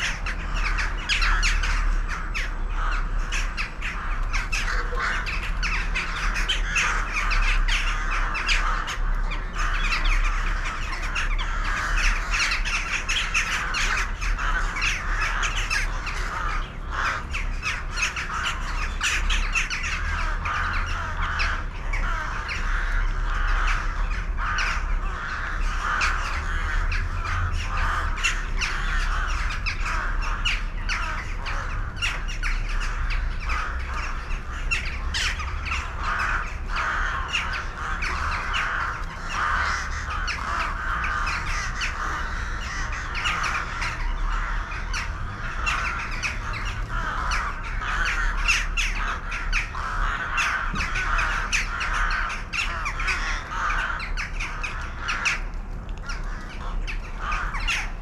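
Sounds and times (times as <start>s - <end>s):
flock of birds chattering: 0.0s - 58.0s.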